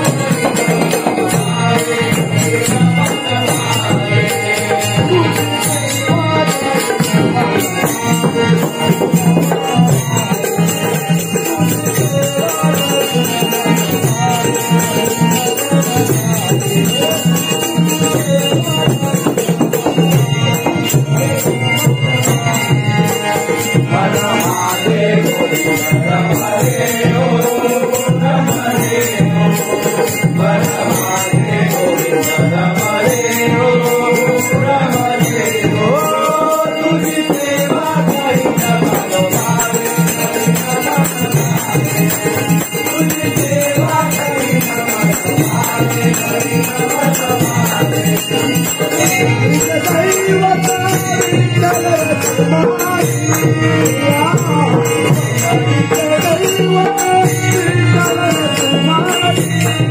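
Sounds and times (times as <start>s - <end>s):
group of voices singing: 0.0s - 59.9s
jingling hand percussion: 0.0s - 59.9s.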